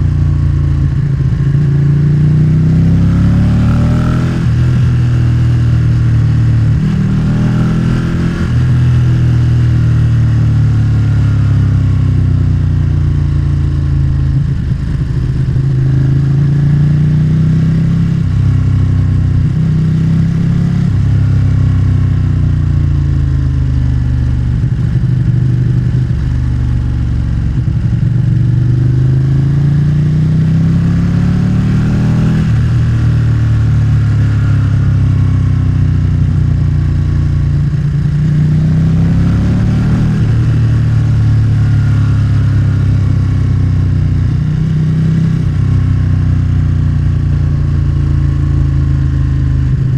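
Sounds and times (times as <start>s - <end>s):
motorcycle engine accelerating: 0.0s - 49.9s
wind and road noise: 0.0s - 49.9s.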